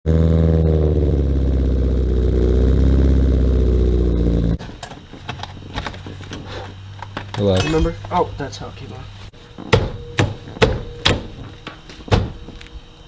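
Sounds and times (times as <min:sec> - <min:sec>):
car engine running: 0:01.3 - 0:12.9.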